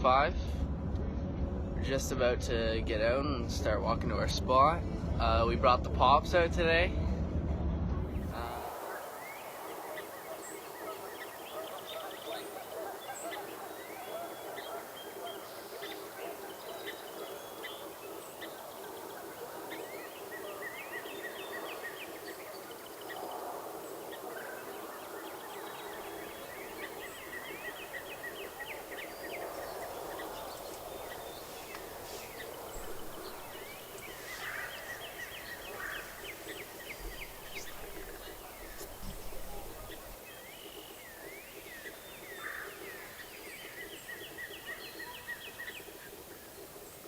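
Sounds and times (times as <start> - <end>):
songbirds trilling: 8.1 - 47.0.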